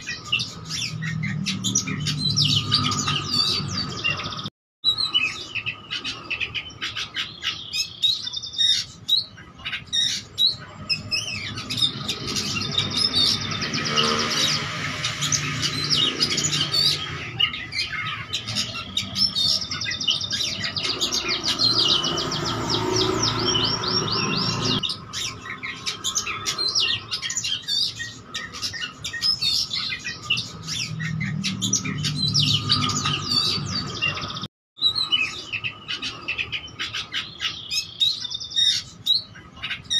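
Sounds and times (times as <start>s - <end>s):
songbird singing and trilling: 0.0s - 39.9s.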